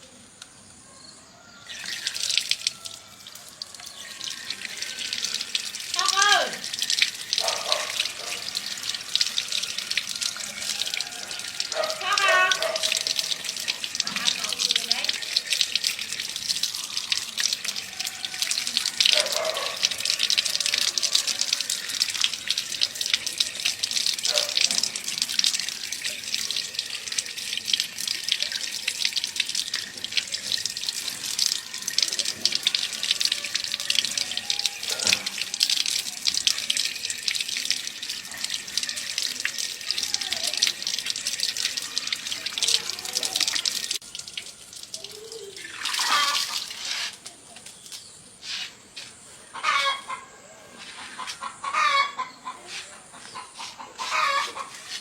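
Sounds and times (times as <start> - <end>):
water spraying on hard surfaces: 1.7 - 50.0, 52.6 - 55.0.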